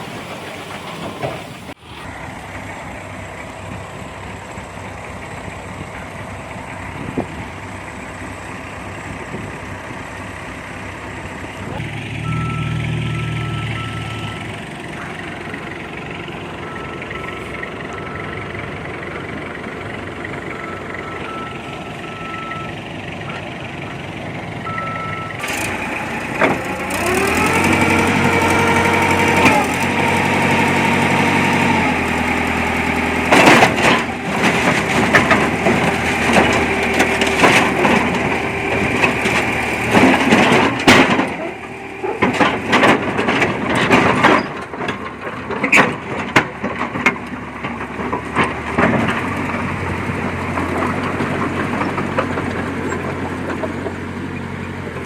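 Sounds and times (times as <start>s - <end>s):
bulldozer diesel engine revving: 0.0s - 55.0s.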